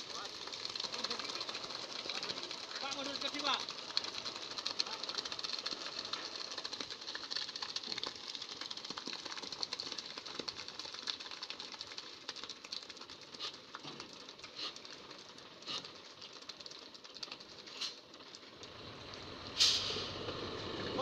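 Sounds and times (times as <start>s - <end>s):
concrete pouring down chute: 0.0s - 21.0s.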